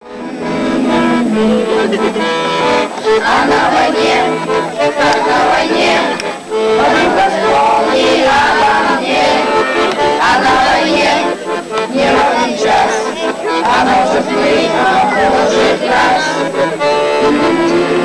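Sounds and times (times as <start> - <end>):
accordion: 0.0 - 18.0
group of voices singing: 0.0 - 18.0.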